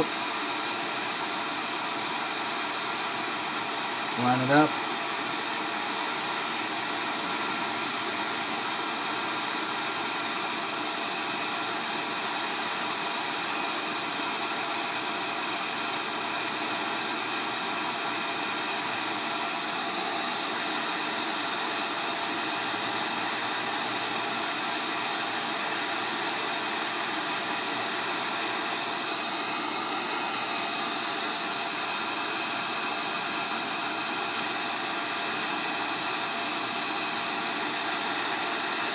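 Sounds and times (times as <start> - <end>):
heat gun blowing hot air: 0.0 - 38.9.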